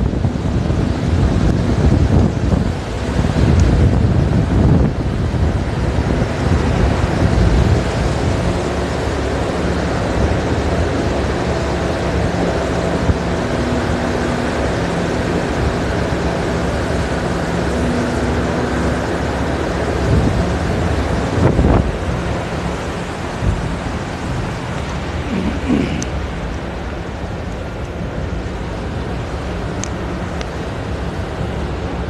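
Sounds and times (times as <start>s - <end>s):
conveyor machinery drone: 0.0s - 32.0s
wind buffeting microphone: 0.0s - 32.0s.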